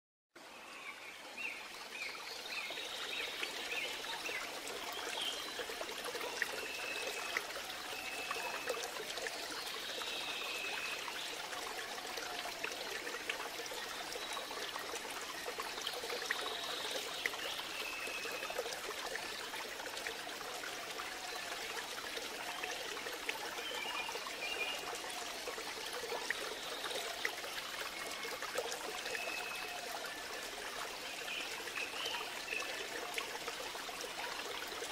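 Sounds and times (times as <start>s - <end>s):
stream water trickling: 0.4s - 34.9s.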